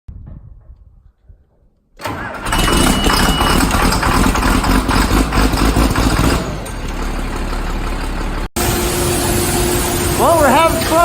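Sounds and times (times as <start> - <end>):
large engine running: 2.0 - 11.0.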